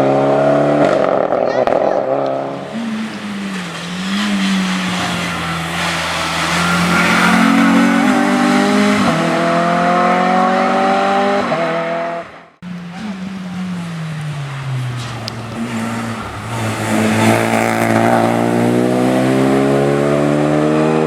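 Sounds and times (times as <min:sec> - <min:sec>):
racing car engine accelerating: 0:00.0 - 0:21.0.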